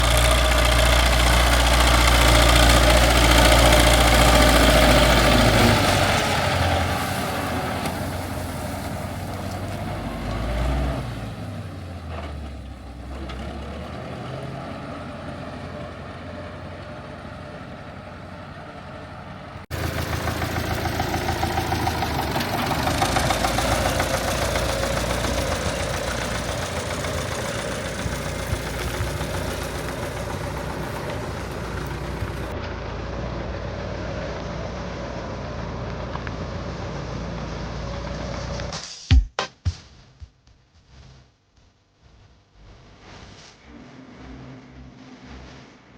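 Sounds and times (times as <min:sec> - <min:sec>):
tractor engine running: 0:00.0 - 0:38.8.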